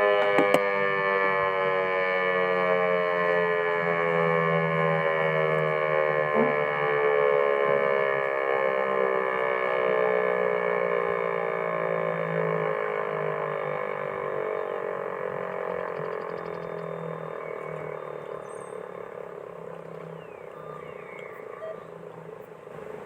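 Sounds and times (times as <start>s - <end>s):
warning siren winding down: 0.0s - 22.8s
steady low hum: 0.0s - 23.0s.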